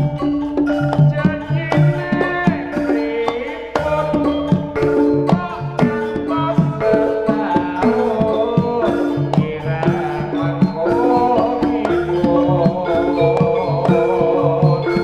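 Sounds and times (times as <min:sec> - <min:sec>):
gamelan metallophones: 0:00.0 - 0:15.0
hand drums: 0:00.0 - 0:15.0.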